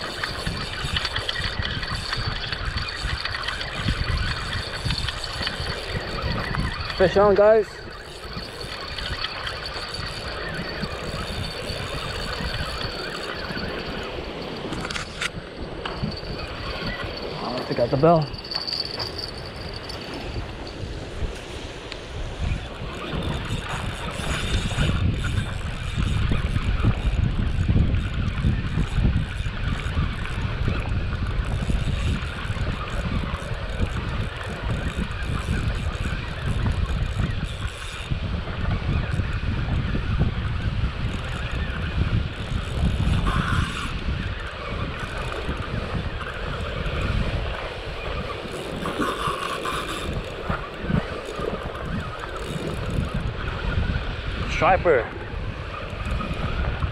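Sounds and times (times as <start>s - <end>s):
fishing reel cranking: 0.0s - 56.9s
wind buffeting microphone: 0.0s - 56.9s.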